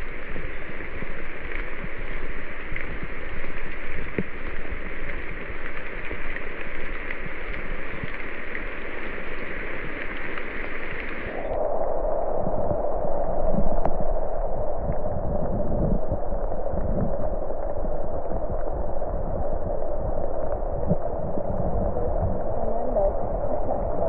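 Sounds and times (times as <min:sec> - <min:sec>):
muffled rushing water: 0:00.0 - 0:24.0.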